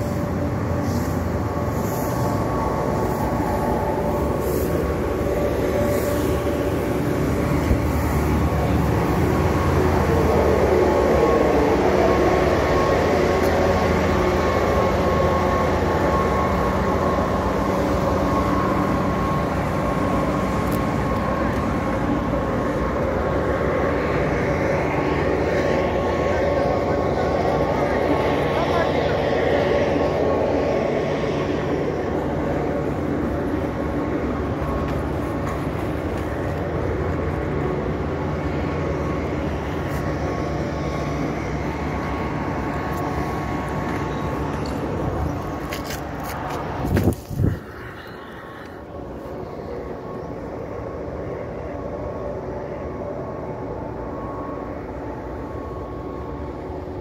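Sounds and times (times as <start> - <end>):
road noise: 0.0 - 57.0
vehicle engine hum: 0.0 - 57.0.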